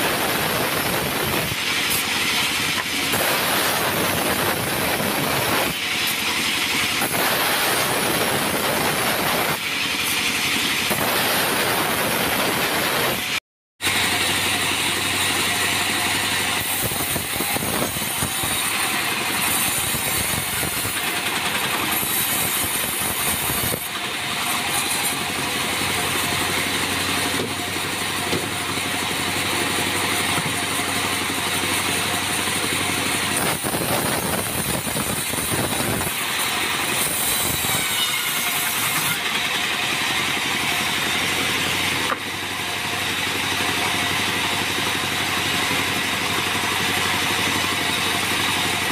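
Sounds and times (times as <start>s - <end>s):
bandsaw cutting log: 0.0s - 48.9s
machine drone: 0.0s - 48.9s.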